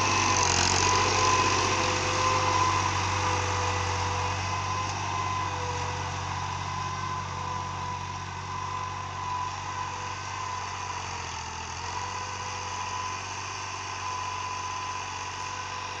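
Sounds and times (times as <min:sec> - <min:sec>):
tractor diesel engine idling: 0:00.0 - 0:16.0.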